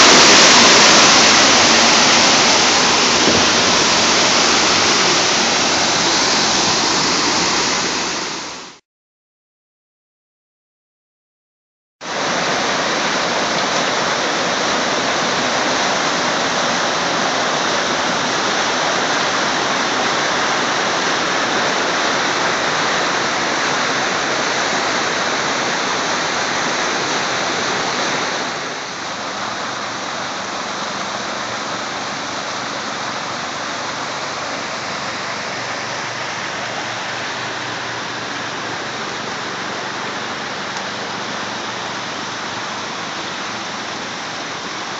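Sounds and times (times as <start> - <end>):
water rushing over rocks: 0.0 - 8.8, 12.0 - 44.9.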